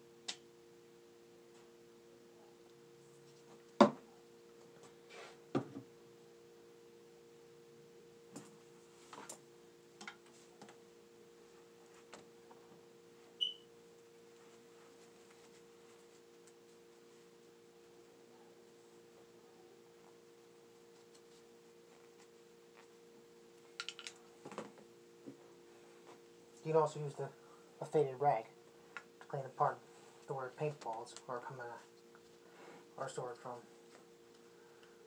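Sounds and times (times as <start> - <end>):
steady two-note hum: 0.0 - 35.0.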